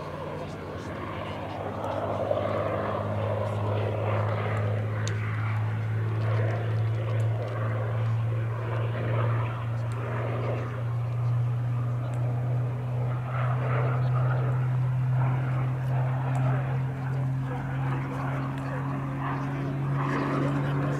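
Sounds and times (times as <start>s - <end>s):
propeller plane engine droning overhead: 0.0s - 20.9s.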